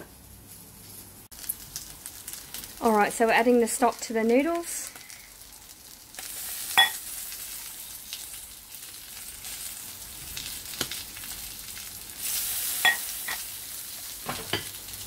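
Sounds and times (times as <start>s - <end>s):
pork sizzling in a grill pan: 0.0s - 15.0s.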